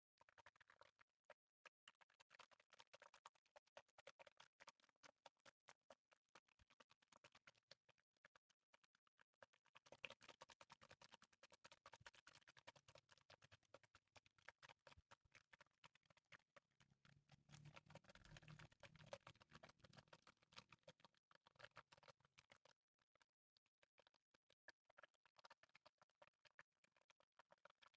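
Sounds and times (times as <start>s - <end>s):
water clicking and pattering: 0.2s - 27.9s.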